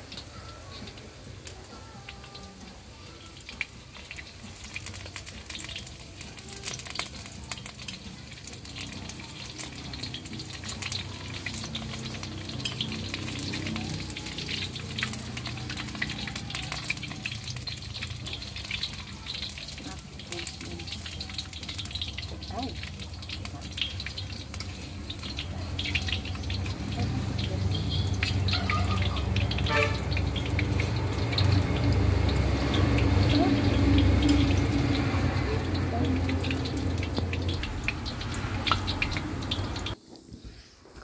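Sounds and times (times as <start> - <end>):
meatballs sizzling in hot oil: 0.0 - 40.8.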